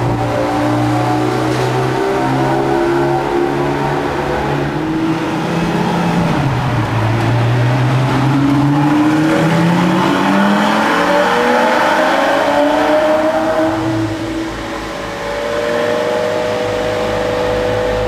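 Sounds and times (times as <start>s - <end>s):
sports car accelerating in tunnel: 0.0s - 18.0s.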